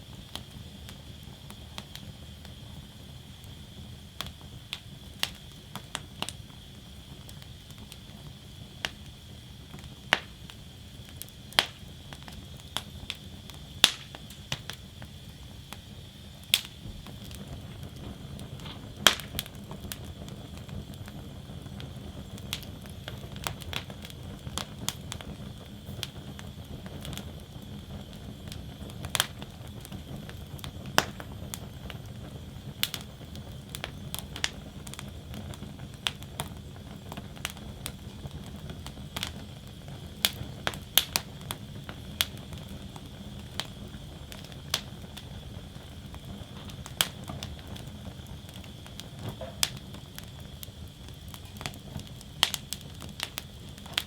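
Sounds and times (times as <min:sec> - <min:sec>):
fire crackling and popping: 0:00.0 - 0:54.0
low rumble of flame: 0:00.0 - 0:54.0.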